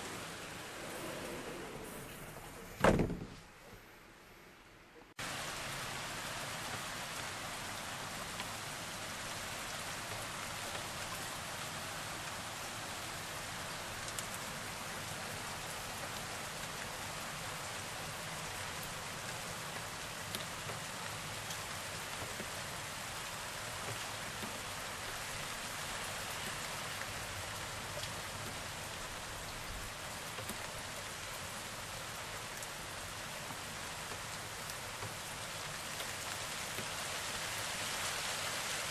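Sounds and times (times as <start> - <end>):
heavy rain falling: 0.0 - 3.5, 5.2 - 38.9.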